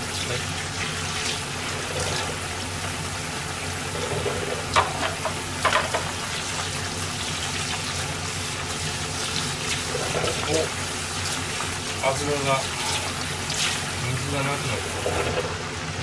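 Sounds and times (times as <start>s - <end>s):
tap water running into sink: 0.0s - 15.7s
oil sizzling deep-frying: 0.0s - 16.0s.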